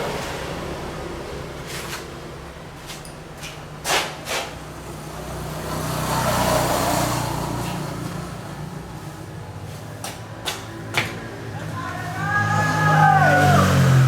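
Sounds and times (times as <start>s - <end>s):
vehicle passing by: 0.0s - 3.0s, 4.3s - 14.0s.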